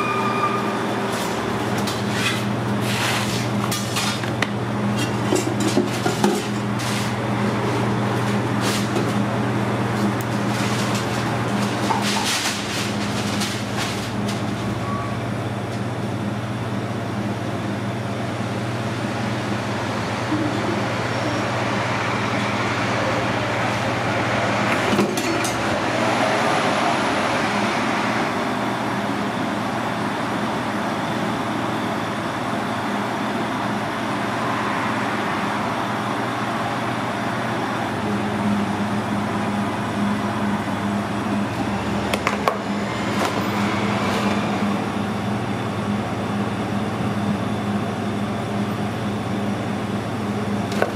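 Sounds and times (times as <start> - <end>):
kitchen machinery hum: 0.0 - 50.9.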